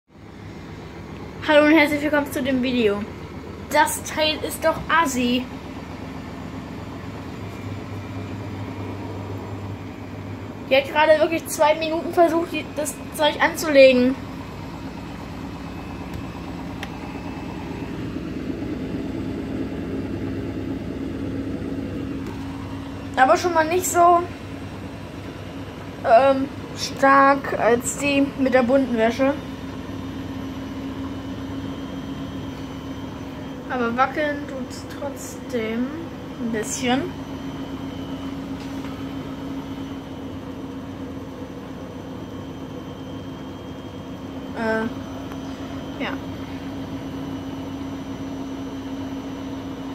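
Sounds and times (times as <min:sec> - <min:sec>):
washing machine motor hum: 0:00.1 - 0:49.9.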